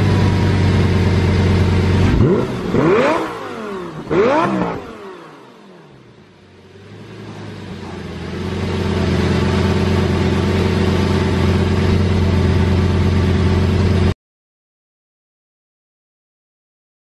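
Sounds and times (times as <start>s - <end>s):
car engine revving then idling: 0.0s - 14.2s.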